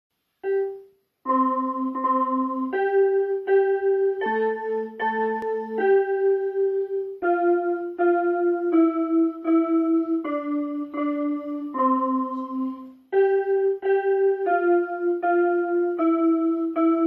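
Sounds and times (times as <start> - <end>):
electronic keyboard melody: 0.4 - 17.0.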